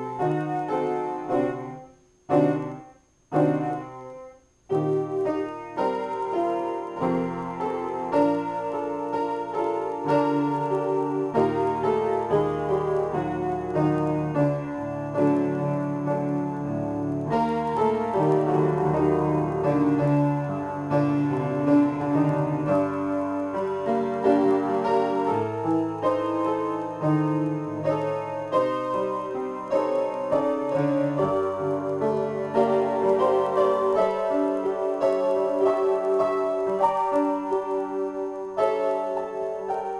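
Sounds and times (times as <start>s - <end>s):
upright piano improvisation: 0.0s - 39.9s.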